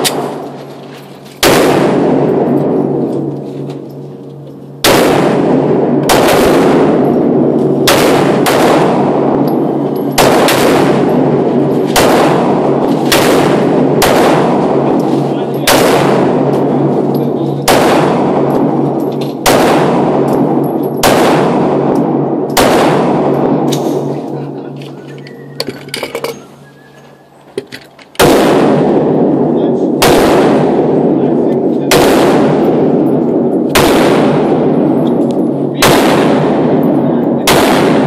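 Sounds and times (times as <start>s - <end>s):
pistol shots echoing indoors: 1.4s - 3.4s, 4.8s - 24.1s, 28.2s - 31.2s, 31.8s - 38.0s.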